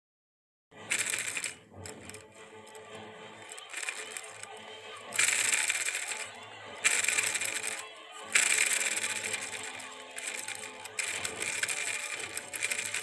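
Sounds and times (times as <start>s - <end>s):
gears whirring and rattling: 0.8s - 13.0s.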